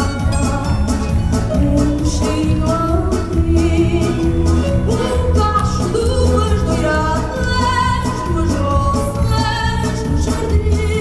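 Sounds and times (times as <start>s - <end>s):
dance music: 0.0s - 11.0s.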